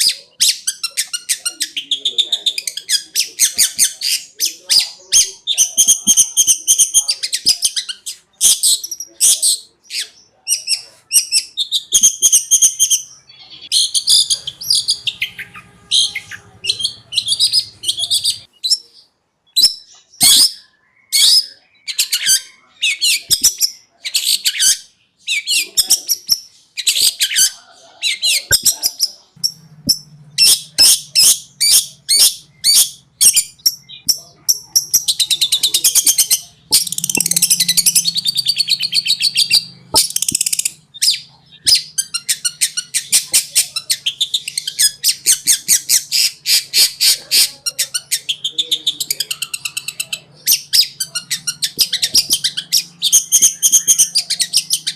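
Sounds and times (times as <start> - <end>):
shrike singing fast varied song: 0.0 - 54.9.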